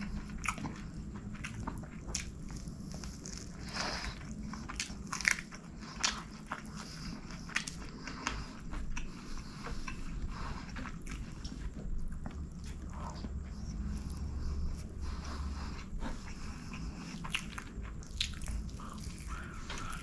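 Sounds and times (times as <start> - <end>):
chewing and mouth smacks: 0.0 - 20.0
low steady hum: 0.0 - 20.0.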